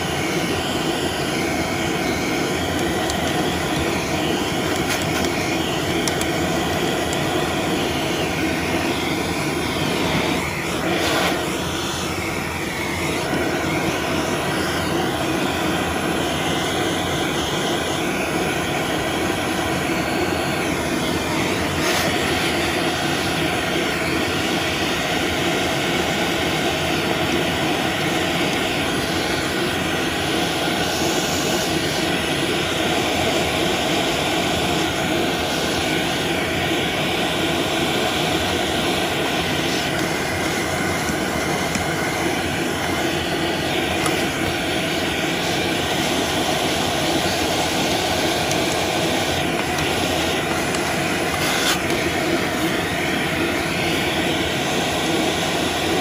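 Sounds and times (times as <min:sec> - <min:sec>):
vacuum cleaner whine: 0:00.0 - 0:56.0.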